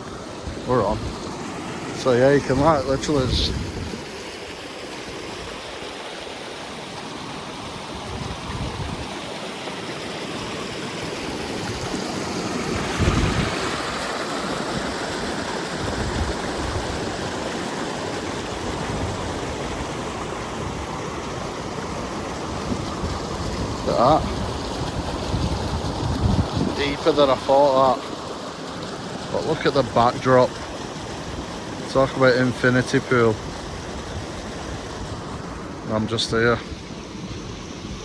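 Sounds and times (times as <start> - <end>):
stream and waterfall rushing: 0.0 - 38.0.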